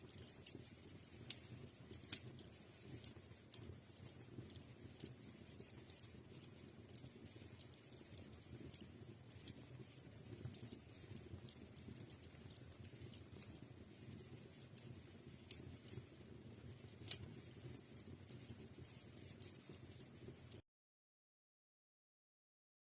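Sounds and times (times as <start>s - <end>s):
low rumble of flame: 0.0s - 20.6s
wood fire crackling and popping: 0.0s - 20.6s.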